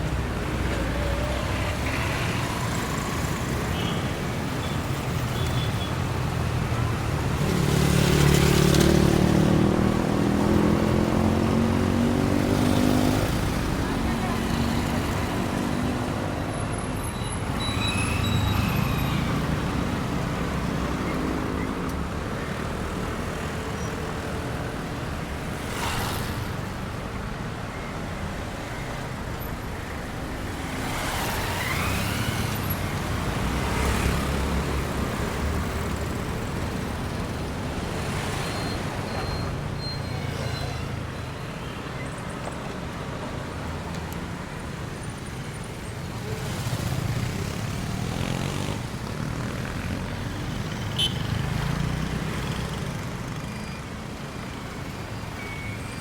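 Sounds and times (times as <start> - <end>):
traffic engines rumbling: 0.0 - 56.0
vehicles passing by: 0.0 - 56.0.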